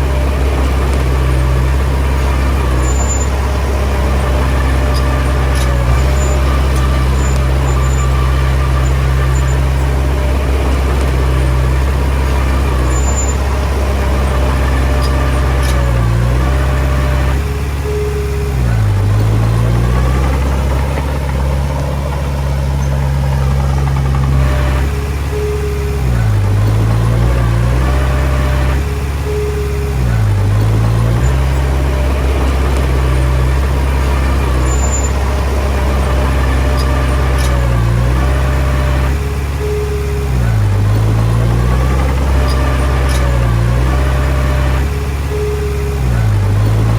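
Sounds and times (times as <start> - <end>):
bulldozer diesel engine lugging: 0.0 - 46.9.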